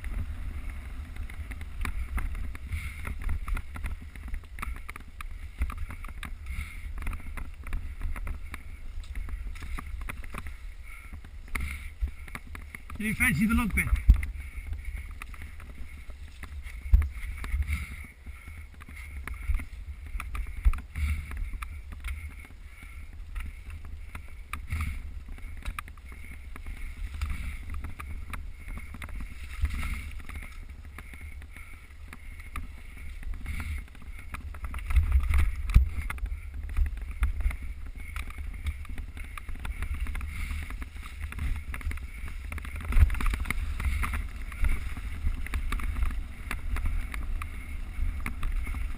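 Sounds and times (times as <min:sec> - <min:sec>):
bike rattling over bumps: 0:00.0 - 0:48.9
wind buffeting: 0:00.0 - 0:48.9.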